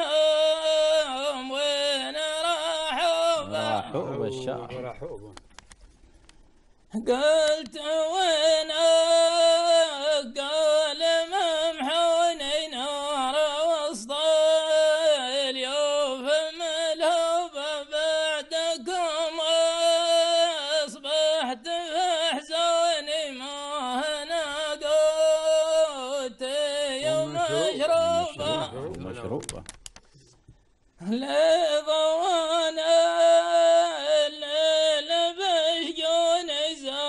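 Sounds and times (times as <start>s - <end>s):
man chanting unaccompanied: 0.0s - 5.3s, 6.9s - 29.7s, 31.0s - 37.0s.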